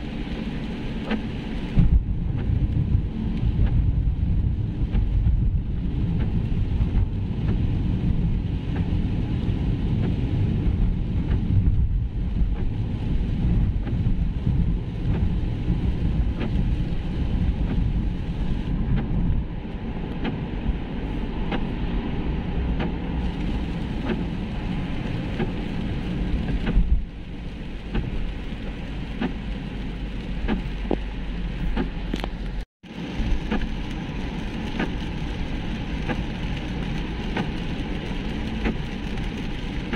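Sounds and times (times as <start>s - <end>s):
raindrops ticking on windscreen: 0.0s - 39.9s
tyre noise on wet road: 0.0s - 39.9s.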